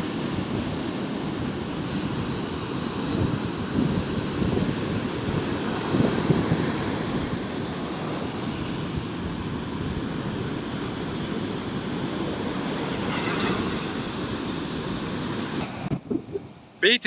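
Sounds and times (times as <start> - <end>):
sea surf breaking on beach: 0.0 - 16.0
wind rumbling on microphone: 0.0 - 16.8.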